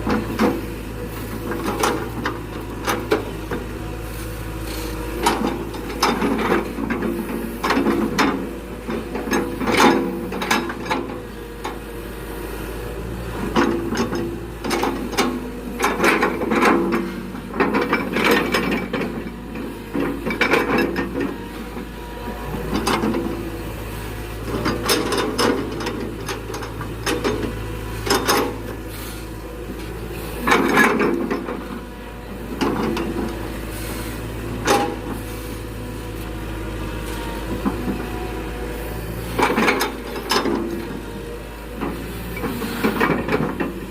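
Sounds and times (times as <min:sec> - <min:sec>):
excavator engine drone: 0:00.0 - 0:43.9.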